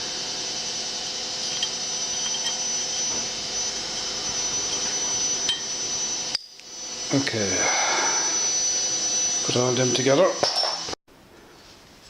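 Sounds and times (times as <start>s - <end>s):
thin high whine: 0.0s - 11.0s.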